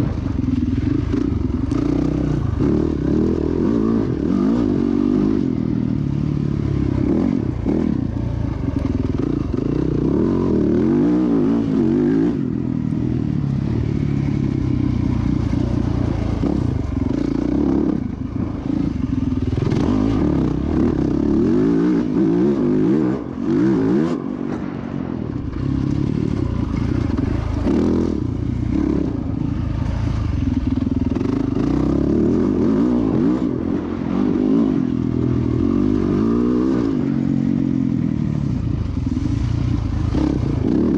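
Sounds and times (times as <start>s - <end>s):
dirt bike engine revving: 0.0s - 37.6s, 38.4s - 40.9s.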